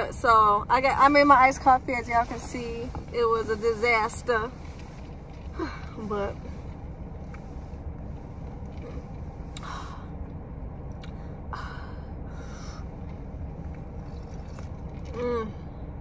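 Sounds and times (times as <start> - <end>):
low hum inside car: 0.0 - 16.0.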